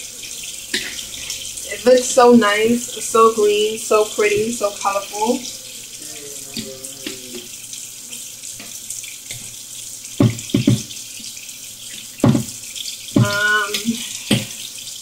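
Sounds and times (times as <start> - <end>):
water running from tap: 0.0 - 15.0.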